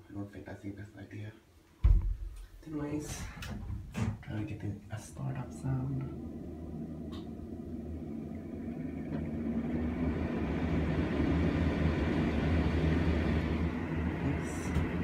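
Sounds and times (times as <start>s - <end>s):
exhaust fan air rushing: 2.8s - 15.0s
low hum: 2.8s - 15.0s.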